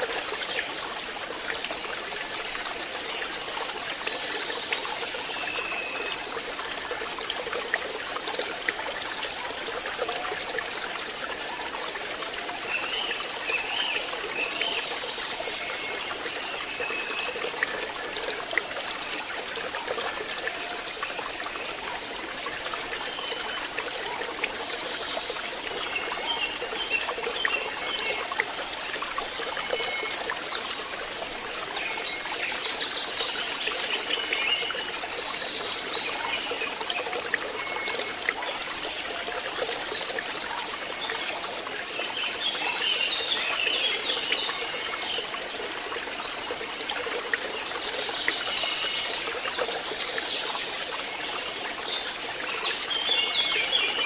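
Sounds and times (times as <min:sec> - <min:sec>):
water trickling into pond: 0:00.0 - 0:54.0.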